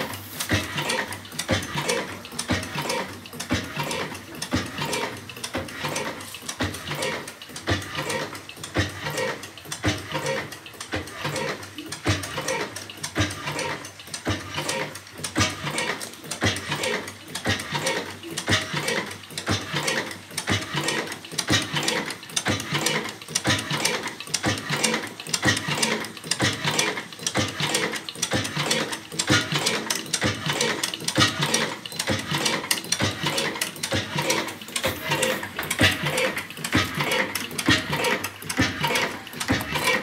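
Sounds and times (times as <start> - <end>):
oil engine clattering: 0.0 - 40.0.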